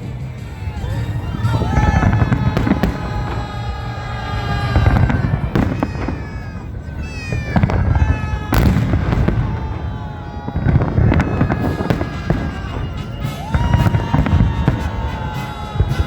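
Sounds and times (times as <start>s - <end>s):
fireworks booming and banging: 0.0s - 16.0s.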